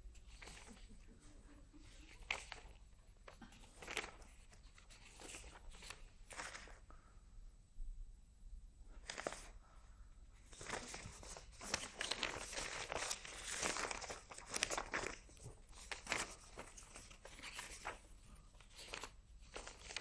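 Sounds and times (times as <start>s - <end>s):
paper crinkling and rustling: 0.2s - 6.9s, 8.9s - 9.7s, 10.4s - 20.0s.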